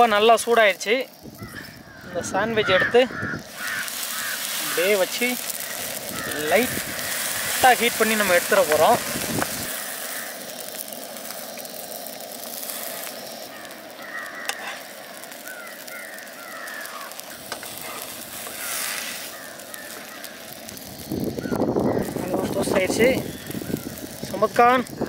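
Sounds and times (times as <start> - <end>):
sandwiches sizzling in a pan: 0.0 - 25.0
bird calling: 1.2 - 25.0.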